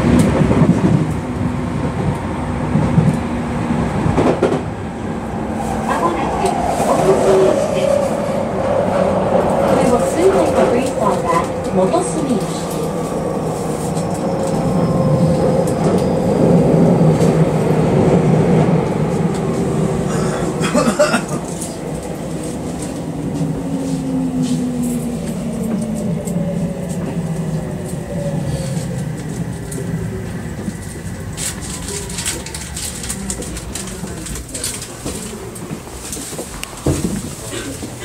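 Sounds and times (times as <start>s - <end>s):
train clatter: 0.0s - 4.8s, 5.6s - 38.0s
train wheels and motors rumbling: 0.0s - 38.0s.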